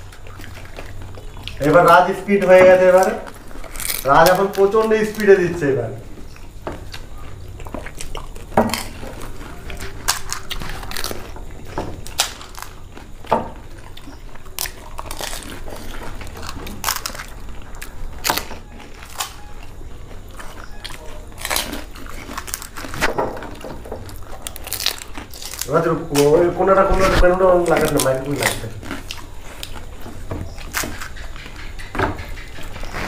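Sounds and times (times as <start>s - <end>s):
crisp shells crunching: 0.0s - 31.2s.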